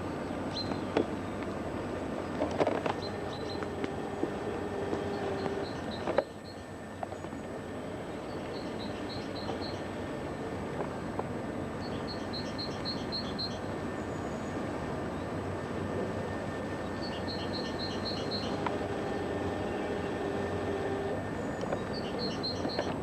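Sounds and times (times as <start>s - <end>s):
small bird singing: 0.0s - 1.4s, 2.2s - 10.0s, 11.8s - 15.4s, 16.8s - 23.0s
steady background noise: 0.0s - 23.0s.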